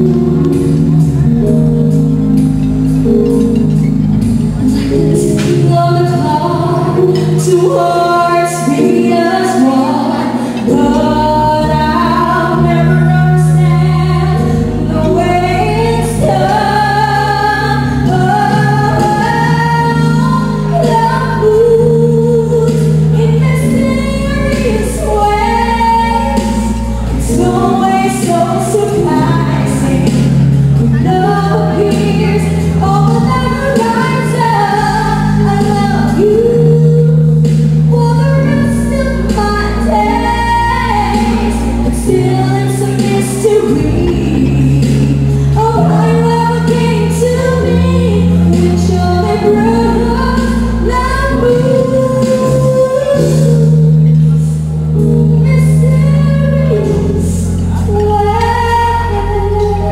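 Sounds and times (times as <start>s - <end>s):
instrumental accompaniment: 0.0s - 59.9s
woman singing a ballad: 4.6s - 59.9s.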